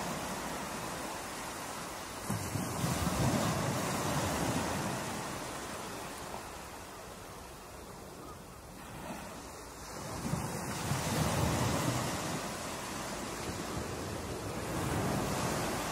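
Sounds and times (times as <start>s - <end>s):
ocean surf breaking: 0.0s - 15.9s.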